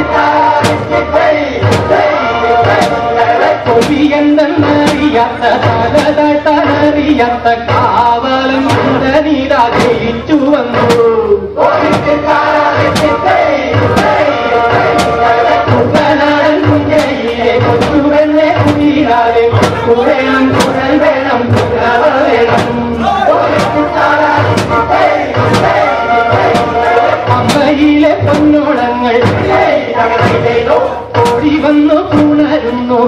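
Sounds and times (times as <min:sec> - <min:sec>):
group chanting and singing: 0:00.0 - 0:33.0
steady percussion beat: 0:00.0 - 0:33.0.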